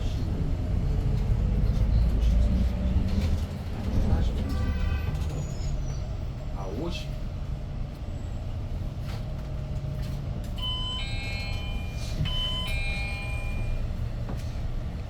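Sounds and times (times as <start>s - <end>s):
bus engine and road noise drone: 0.0s - 15.0s.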